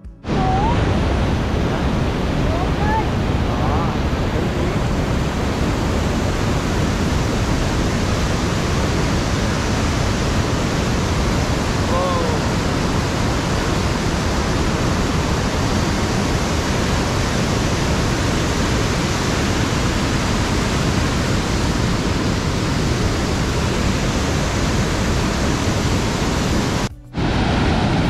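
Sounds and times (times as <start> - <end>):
waterfall rushing: 0.2 - 28.0.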